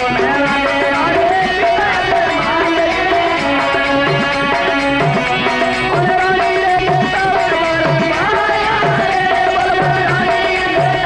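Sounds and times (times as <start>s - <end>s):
hand drum beat: 0.0s - 11.0s
person singing folk melody: 0.0s - 11.0s.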